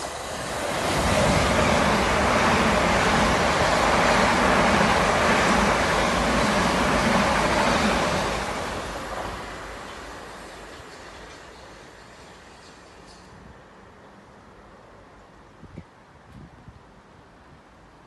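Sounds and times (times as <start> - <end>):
train passing close by: 0.0 - 15.5.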